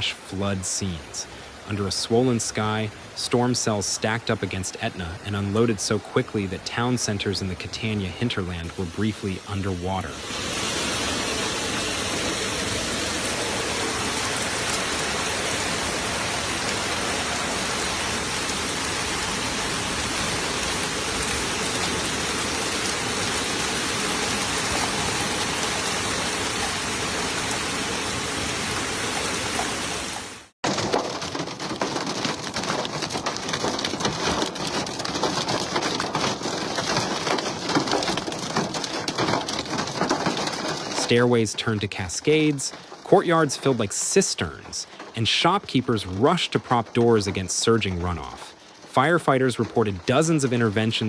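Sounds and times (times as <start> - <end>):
heavy rain falling: 0.0 - 51.0
rain pattering on hard surfaces: 0.0 - 51.0.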